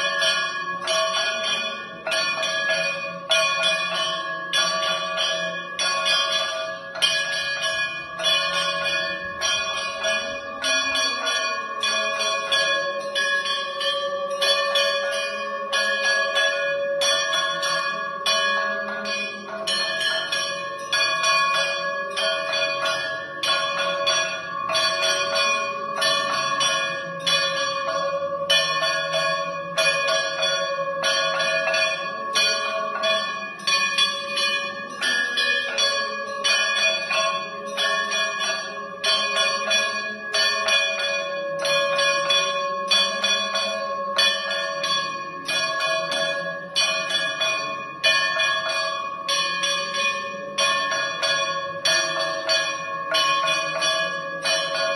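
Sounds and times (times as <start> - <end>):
temple bells ringing: 0.0 - 54.9.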